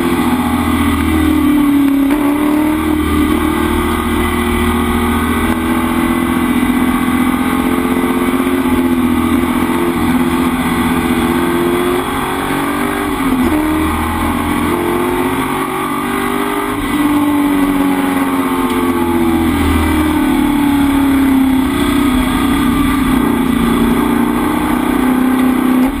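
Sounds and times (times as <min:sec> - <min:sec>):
race car engine running hard: 0:00.0 - 0:26.0.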